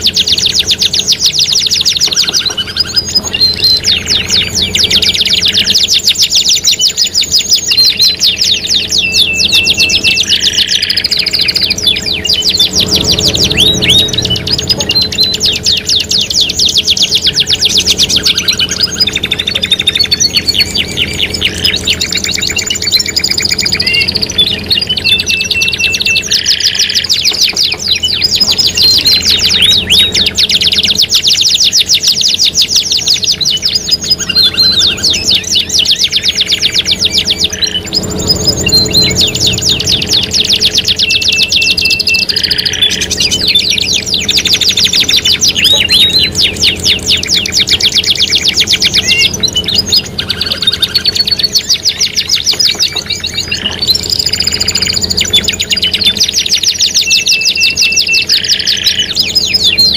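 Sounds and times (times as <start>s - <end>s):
canary trilling: 0.0s - 59.9s
songbirds chirping and whistling: 0.0s - 59.9s.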